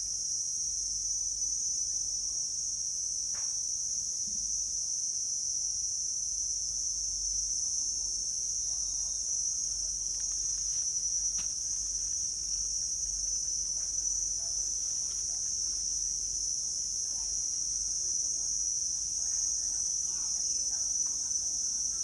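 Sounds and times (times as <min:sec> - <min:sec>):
insect chorus droning: 0:00.0 - 0:22.0.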